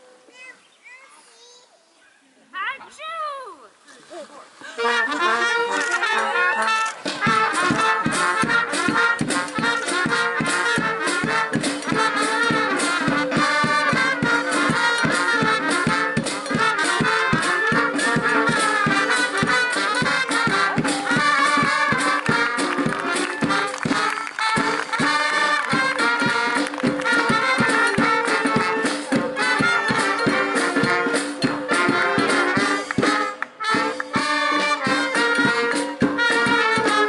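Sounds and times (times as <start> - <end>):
brass band playing: 4.0 - 37.0
quick drumbeat: 4.8 - 37.0.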